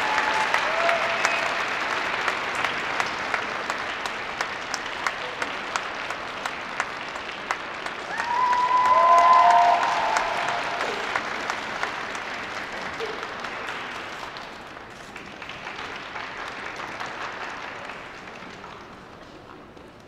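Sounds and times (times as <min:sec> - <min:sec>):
audience applause: 0:00.0 - 0:19.6.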